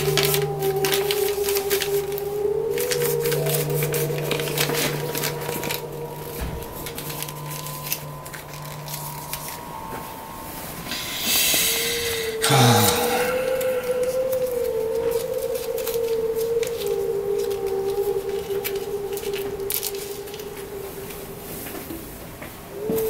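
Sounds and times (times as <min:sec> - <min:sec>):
eerie ambient drone music: 0:00.0 - 0:23.0.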